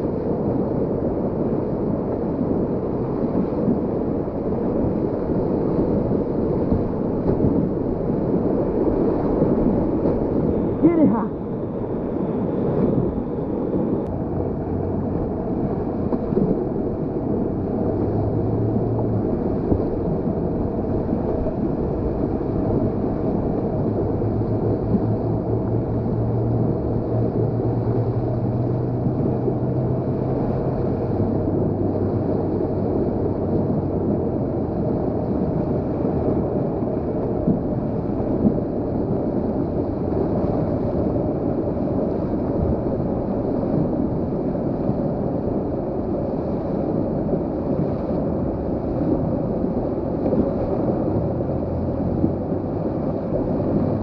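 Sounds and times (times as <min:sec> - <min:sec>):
whitewater rushing: 0:00.0 - 0:54.0.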